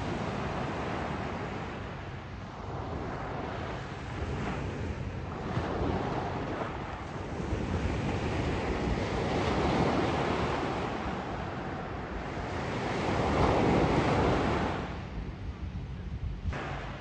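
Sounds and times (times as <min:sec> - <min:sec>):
surf waves washing on beach: 0:00.0 - 0:17.0
wind buffeting microphone: 0:00.0 - 0:17.0.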